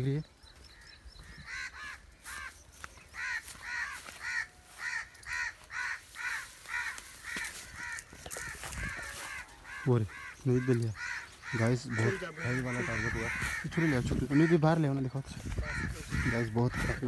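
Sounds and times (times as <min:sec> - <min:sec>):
bird giving harsh caw-like calls: 0:00.7 - 0:17.0.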